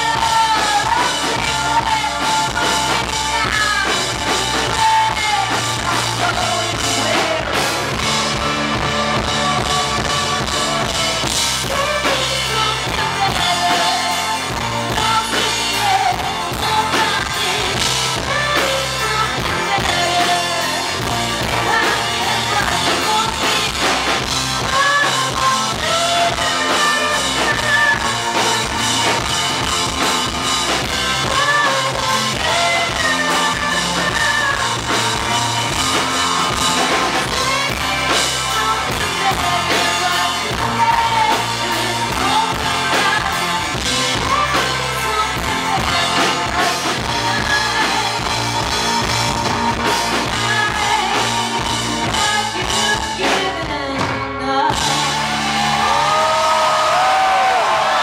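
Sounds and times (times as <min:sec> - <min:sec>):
drum kit: 0:00.0 - 0:58.0
electric guitar: 0:00.0 - 0:58.0
keyboard: 0:00.0 - 0:58.0
person singing: 0:00.0 - 0:58.0.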